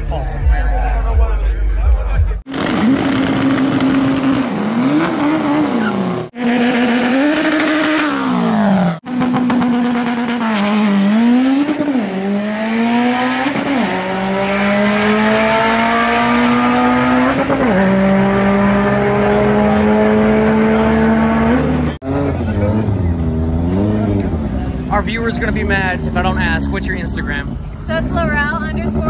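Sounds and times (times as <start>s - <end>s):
car engine at full throttle: 2.3s - 29.0s.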